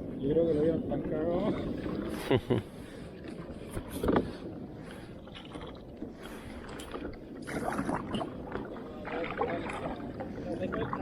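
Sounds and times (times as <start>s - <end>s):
water sloshing and splashing: 1.0s - 11.0s.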